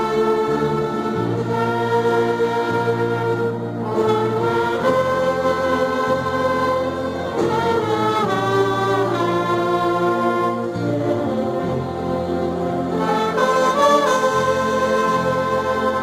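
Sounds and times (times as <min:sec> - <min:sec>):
orchestra playing a slow hymn: 0:00.0 - 0:16.0.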